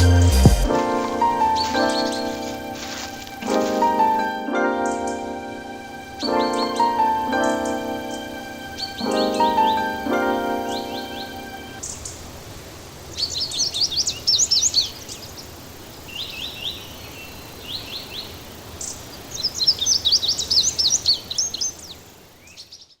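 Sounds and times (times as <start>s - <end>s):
steady background hiss: 0.0s - 23.0s
songbird twittering: 0.6s - 12.4s, 13.0s - 23.0s.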